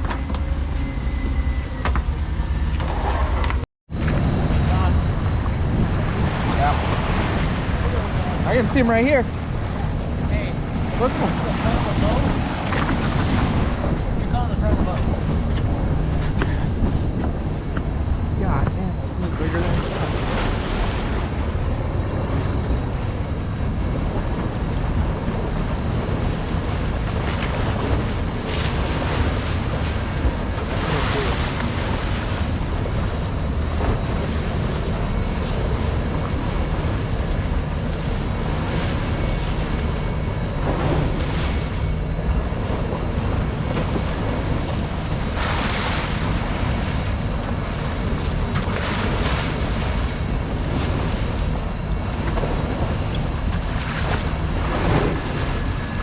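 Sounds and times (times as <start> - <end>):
low rumble: 0.0 - 56.0
water washing against boat: 0.0 - 56.0
wind buffeting microphone: 0.0 - 56.0.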